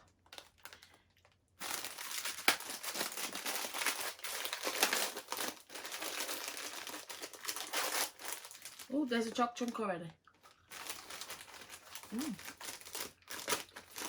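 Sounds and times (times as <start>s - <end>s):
wrapper crinkling: 0.0s - 9.8s, 10.4s - 14.0s.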